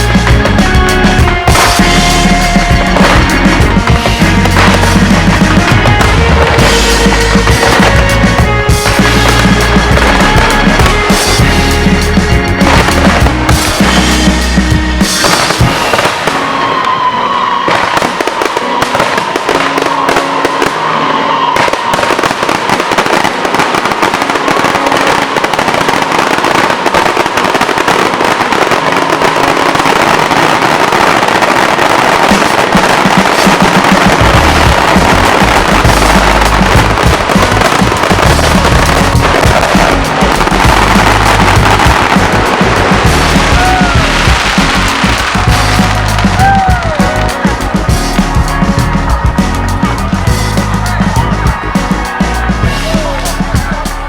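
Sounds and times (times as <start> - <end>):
deep firework booms: 0.0 - 17.0, 21.6 - 53.8
firework whistle: 0.0 - 54.0
fireworks crackling and popping: 0.0 - 54.0.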